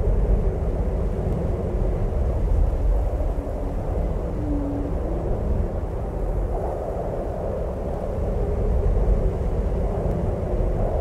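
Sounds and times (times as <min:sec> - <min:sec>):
faint wind howl: 0:00.0 - 0:11.0
snowstorm wind with deep rumble: 0:00.0 - 0:11.0.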